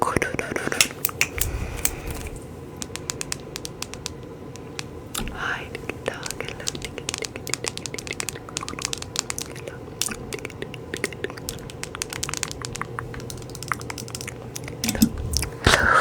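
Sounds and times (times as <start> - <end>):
crisp clicks and crackles: 0.0 - 16.0.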